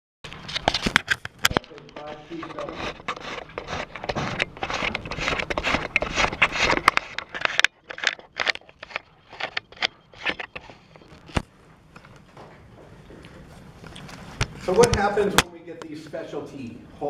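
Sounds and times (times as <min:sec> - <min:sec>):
rustling and scraping: 0:00.3 - 0:16.4.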